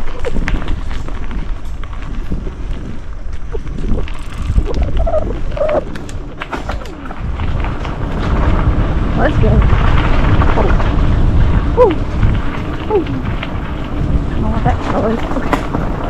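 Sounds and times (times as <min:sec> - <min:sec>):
bike clattering over rough ground: 0:00.0 - 0:16.0
bike tyres rumbling on dirt: 0:00.0 - 0:16.0
wind on microphone: 0:00.0 - 0:16.0.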